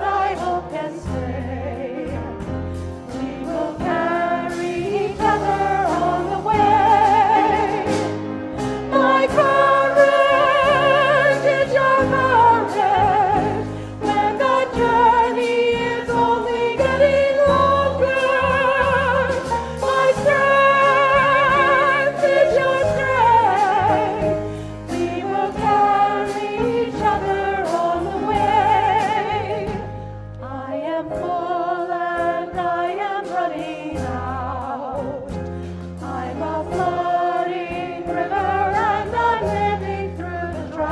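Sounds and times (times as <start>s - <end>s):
choir singing a hymn: 0.0s - 40.9s
instrumental accompaniment: 0.0s - 40.9s.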